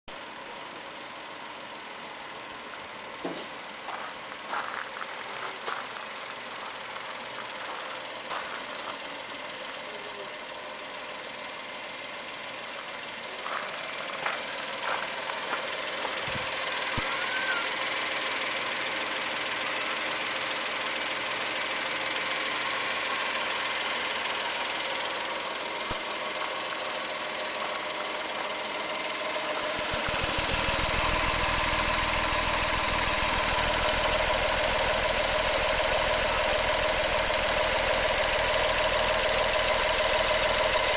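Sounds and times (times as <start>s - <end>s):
small truck engine idling: 0.1s - 40.9s.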